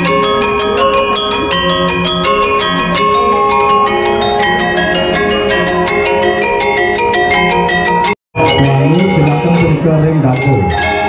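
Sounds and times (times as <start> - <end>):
gamelan metallophones struck with mallets: 0.0 - 11.0.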